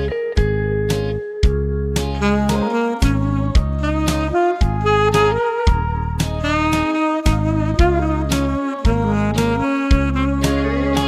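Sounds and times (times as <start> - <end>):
bass: 0.0 - 11.0
alto saxophone melody: 2.1 - 11.0.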